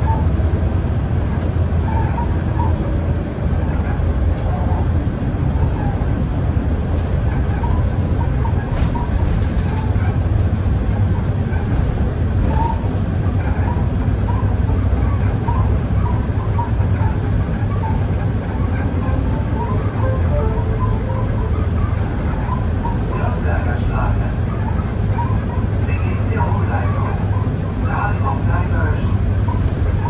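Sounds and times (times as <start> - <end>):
bus engine rumble: 0.0 - 30.0
road noise: 0.0 - 30.0.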